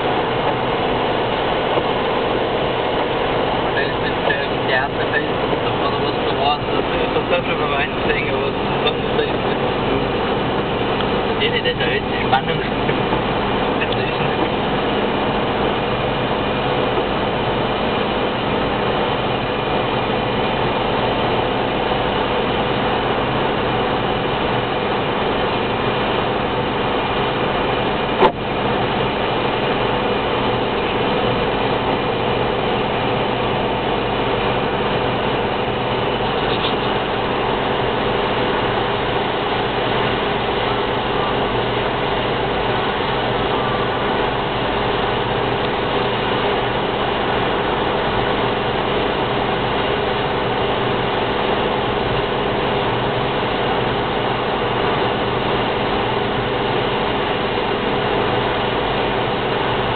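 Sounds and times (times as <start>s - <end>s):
car cabin drone on wet road: 0.0s - 59.9s.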